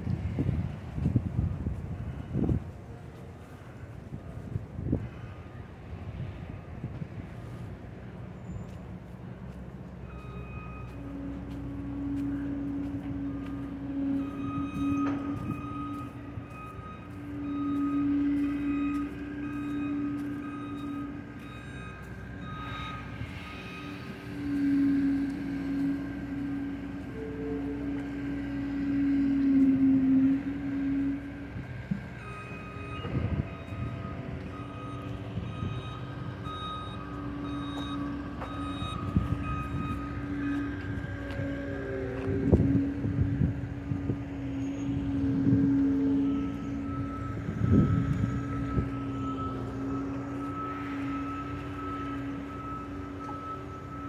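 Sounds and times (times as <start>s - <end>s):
low engine drone: 0.0s - 54.0s
vehicle reversing alarm beeping: 0.0s - 54.0s.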